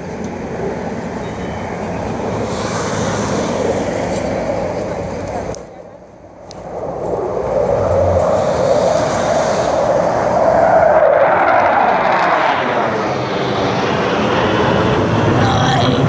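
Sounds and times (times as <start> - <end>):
jet engines flying over: 0.0 - 16.0.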